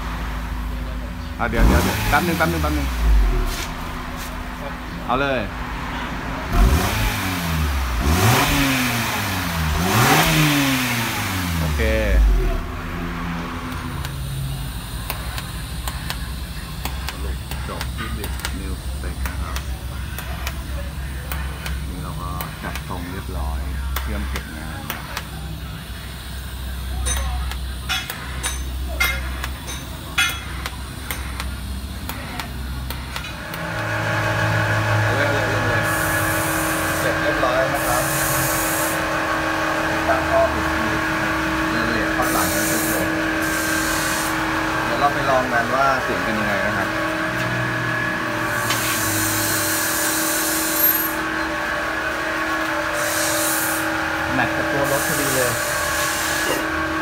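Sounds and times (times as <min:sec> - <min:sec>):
steady low hum: 0:00.0 - 0:50.1
car engine idling: 0:00.0 - 0:50.3.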